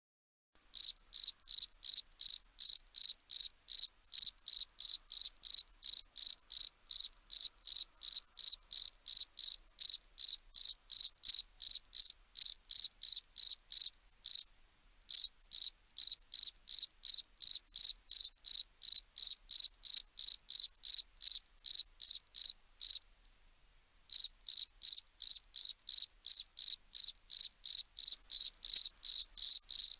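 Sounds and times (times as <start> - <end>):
cricket chirping: 0.7 - 14.5, 15.1 - 23.0, 24.1 - 29.9.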